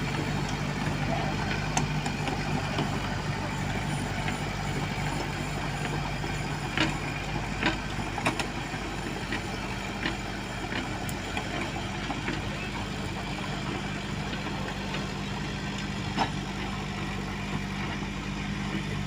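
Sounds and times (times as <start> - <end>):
heavy diesel engines humming: 0.0 - 19.0.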